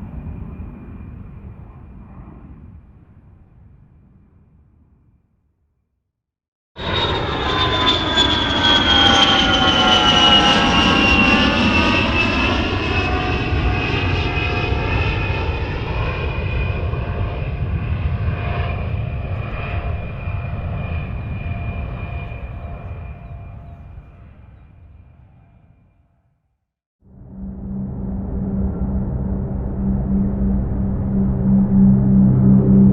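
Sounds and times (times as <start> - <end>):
aircraft engine rumble and whine: 0.0 - 4.1, 6.8 - 26.0, 27.1 - 32.9.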